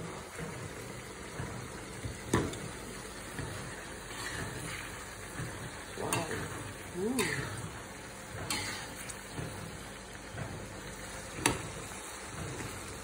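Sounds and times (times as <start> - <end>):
pot simmering and bubbling: 0.0 - 13.0.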